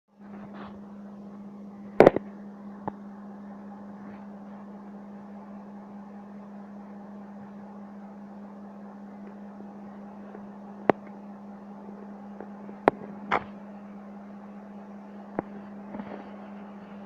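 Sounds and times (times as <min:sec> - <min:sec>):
low hum: 0:00.1 - 0:17.0.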